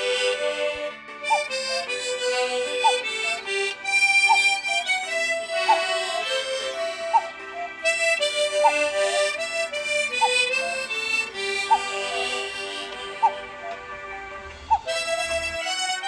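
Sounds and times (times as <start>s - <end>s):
harmonica melody: 0.0s - 16.0s.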